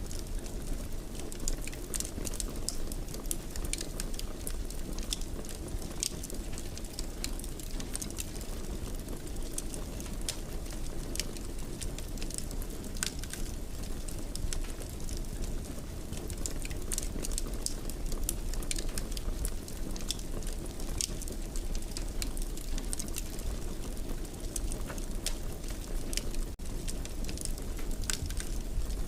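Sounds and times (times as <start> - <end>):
burning wood crackling and popping: 0.0 - 29.0
low rumble of flames: 0.0 - 29.0.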